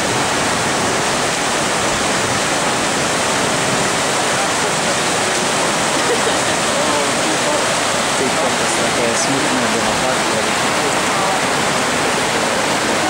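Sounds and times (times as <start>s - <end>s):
flood water rushing: 0.0s - 13.0s.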